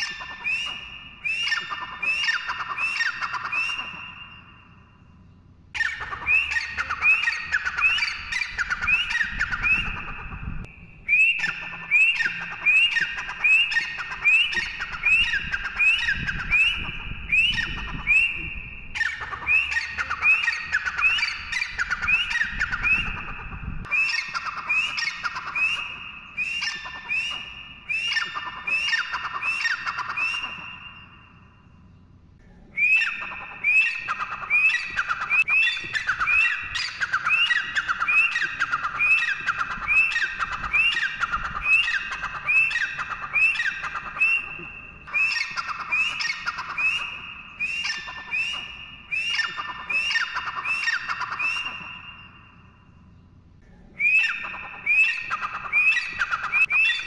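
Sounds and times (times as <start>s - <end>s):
bird shrill rhythmic calls: 0.0s - 57.0s.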